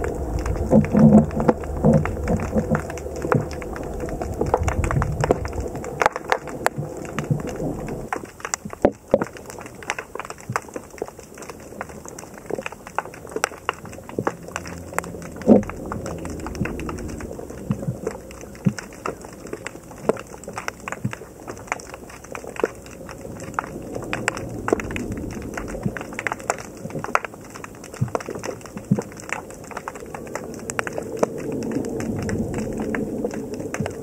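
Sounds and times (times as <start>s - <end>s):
low rumble: 0.0s - 8.8s, 13.5s - 20.0s, 22.0s - 34.0s
underwater crackling clicks: 0.0s - 34.0s.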